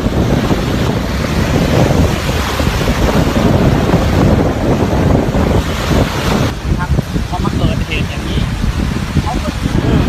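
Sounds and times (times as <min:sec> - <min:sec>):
waves breaking on beach: 0:00.0 - 0:10.0
wind buffeting microphone: 0:00.0 - 0:10.0.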